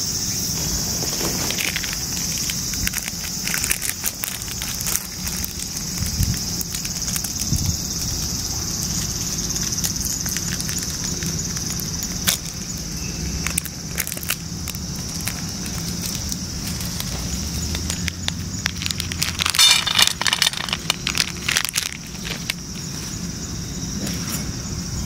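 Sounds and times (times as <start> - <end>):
cicadas droning: 0.0 - 25.0
dry leaves crackling: 0.3 - 24.6.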